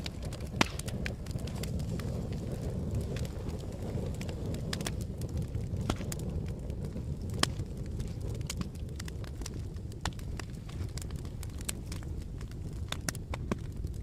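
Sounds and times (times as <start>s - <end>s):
burning wood crackling and popping: 0.0s - 14.0s
low roar of campfire: 0.0s - 14.0s.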